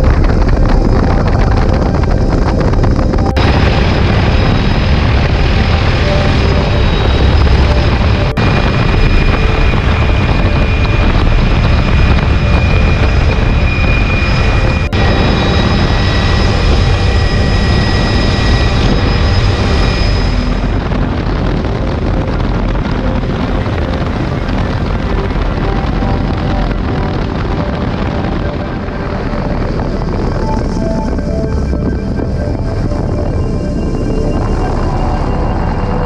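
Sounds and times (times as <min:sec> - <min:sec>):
high whines: 0:00.0 - 0:36.0
helicopter rotor and engine: 0:00.1 - 0:36.0.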